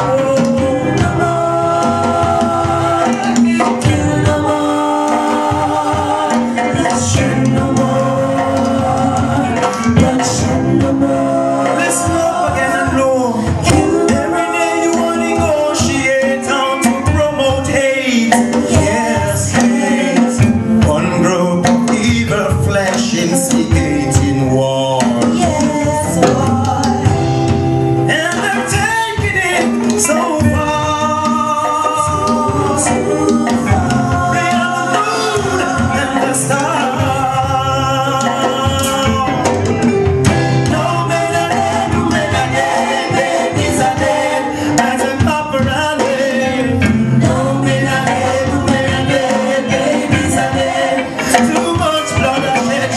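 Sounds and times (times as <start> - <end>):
man singing: 0.0 - 27.4, 28.0 - 52.9
backing music with drums and bass: 0.0 - 52.9.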